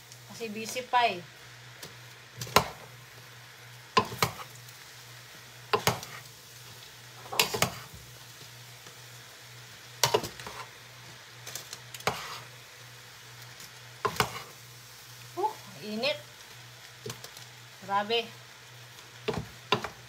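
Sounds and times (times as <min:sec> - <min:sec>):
faint sizzling: 0:00.0 - 0:20.0.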